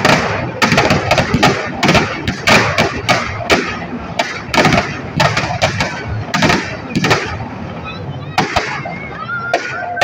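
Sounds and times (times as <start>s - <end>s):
firecrackers banging: 0.0s - 10.0s.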